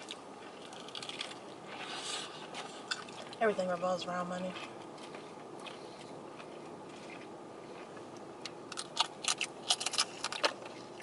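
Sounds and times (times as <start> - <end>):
crunchy food being eaten: 0.0 - 3.4, 4.5 - 11.0
low background hum: 0.0 - 11.0.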